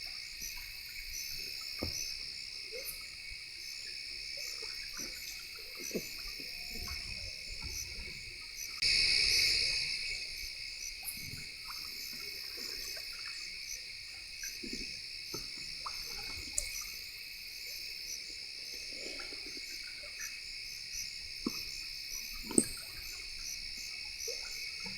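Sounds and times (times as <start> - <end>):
crickets and insects chirping: 0.0 - 24.9.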